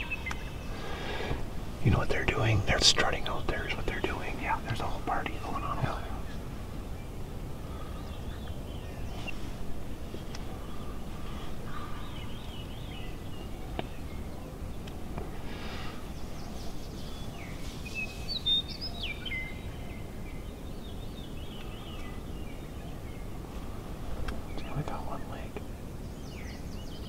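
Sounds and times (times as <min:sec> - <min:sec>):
low wind rumble: 0:00.0 - 0:27.0
small birds chirping: 0:00.0 - 0:27.0.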